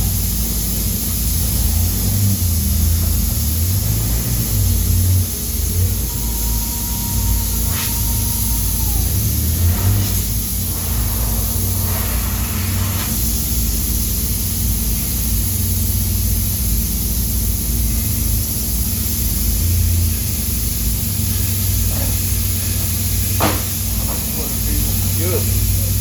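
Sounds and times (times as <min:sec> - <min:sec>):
even hiss: 0:00.0 - 0:26.0
low mechanical hum: 0:00.0 - 0:26.0.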